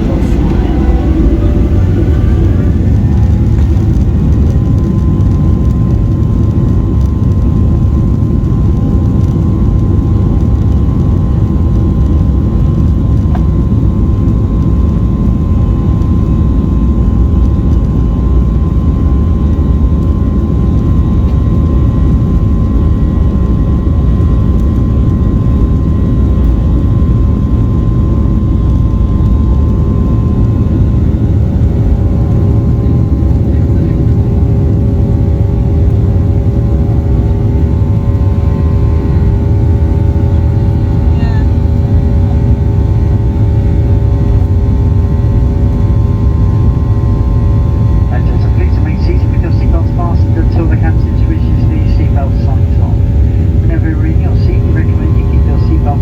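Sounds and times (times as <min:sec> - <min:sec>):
jet engine low rumble: 0:00.0 - 0:56.0
jet engine whine: 0:00.0 - 0:56.0.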